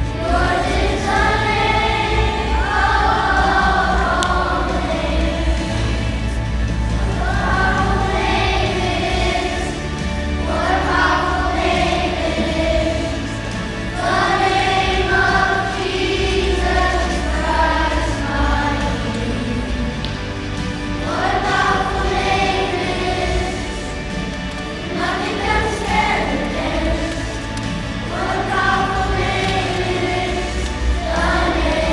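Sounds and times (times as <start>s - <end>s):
choir singing: 0.0s - 31.9s
instrumental accompaniment: 0.0s - 31.9s.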